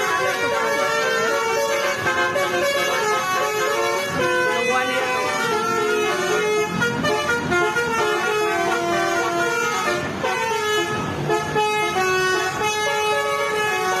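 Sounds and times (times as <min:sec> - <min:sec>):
bus air horns playing tune: 0:00.0 - 0:14.0.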